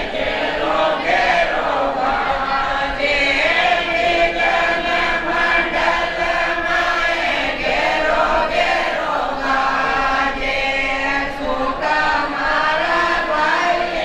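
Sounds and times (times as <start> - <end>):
group singing a chant: 0.0 - 14.0.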